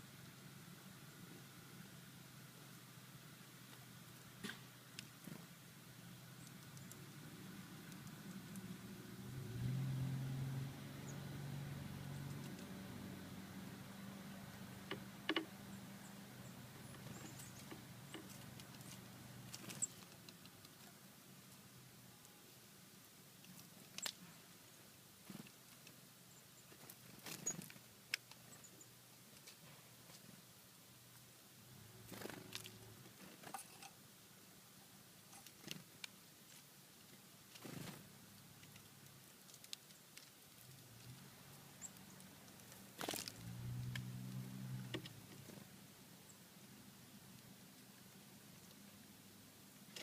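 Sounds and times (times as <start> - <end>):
birds pecking birdseed: 0.0 - 50.0
faint steady hum: 0.0 - 50.0.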